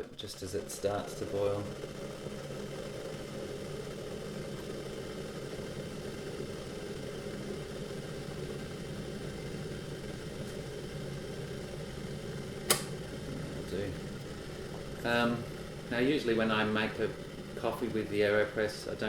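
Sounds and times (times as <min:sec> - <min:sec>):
electric kettle heating water: 0:00.0 - 0:19.0.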